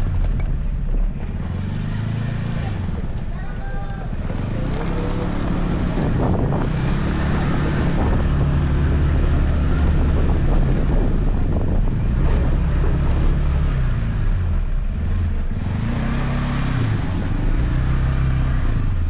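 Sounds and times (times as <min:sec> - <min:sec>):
road noise: 0:00.0 - 0:19.0
scooter engine drone: 0:00.0 - 0:19.0
wind buffeting microphone: 0:00.0 - 0:19.0.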